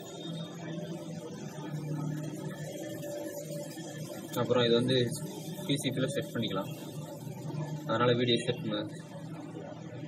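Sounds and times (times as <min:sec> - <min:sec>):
faint background music: 0:00.0 - 0:10.0.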